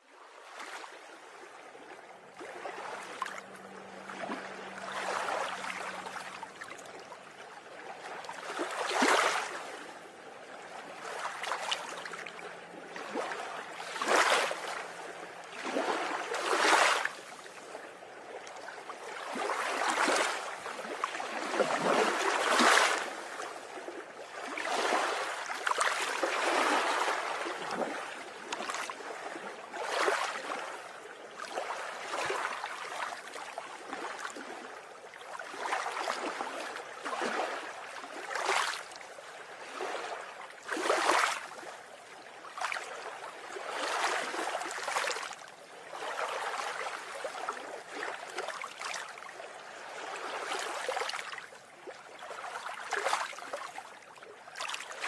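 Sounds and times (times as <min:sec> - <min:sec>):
sea waves breaking: 0:00.1 - 0:53.8.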